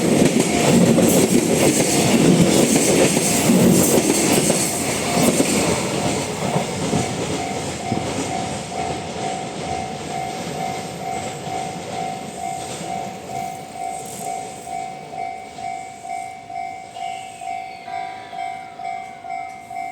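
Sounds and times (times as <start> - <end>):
freight train wagons rumbling: 0.0 - 19.9
level crossing warning bell: 0.0 - 19.9.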